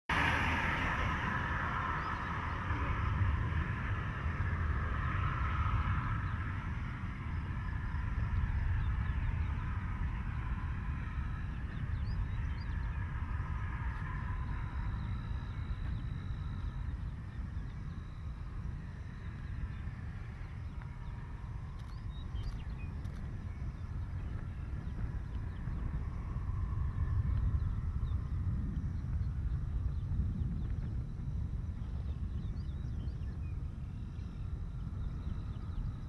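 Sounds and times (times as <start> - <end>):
wind buffeting the microphone: 0.1 - 36.0
faint chirps: 0.2 - 36.0.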